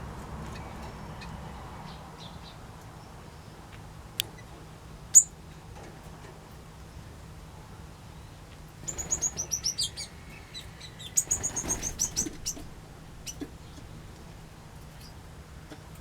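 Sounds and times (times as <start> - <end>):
small birds chirping: 0.4 - 5.4, 7.8 - 15.9.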